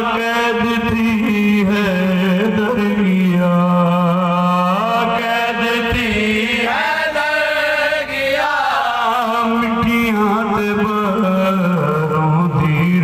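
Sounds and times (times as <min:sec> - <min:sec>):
man chanting into a microphone: 0:00.0 - 0:07.8, 0:08.8 - 0:13.0.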